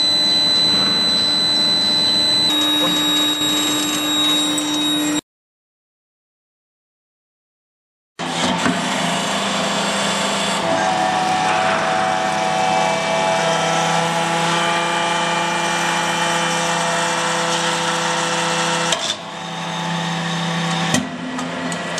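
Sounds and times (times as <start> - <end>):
hydraulic press whine: 0.0 - 5.2, 8.2 - 21.7.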